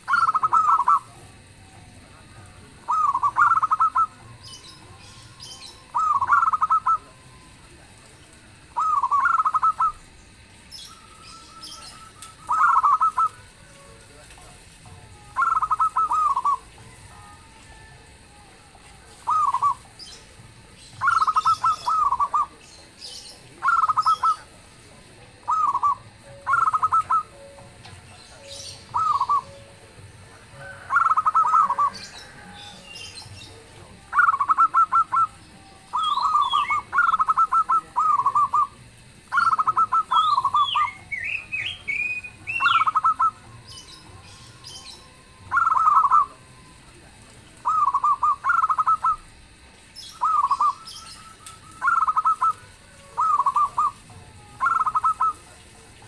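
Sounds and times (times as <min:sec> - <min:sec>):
small bird chirping: 0:00.0 - 0:07.4, 0:08.7 - 0:13.8, 0:15.3 - 0:17.5, 0:19.0 - 0:24.6, 0:25.4 - 0:29.8, 0:30.9 - 0:46.4, 0:49.9 - 0:55.6
dove cooing: 0:00.0 - 0:56.0.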